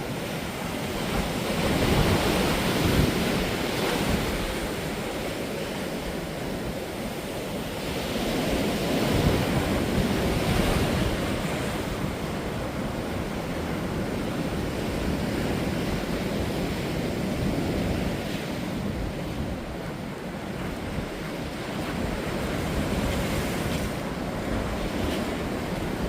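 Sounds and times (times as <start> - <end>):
waves breaking on beach: 0.0 - 26.0
wind buffeting microphone: 0.0 - 26.0.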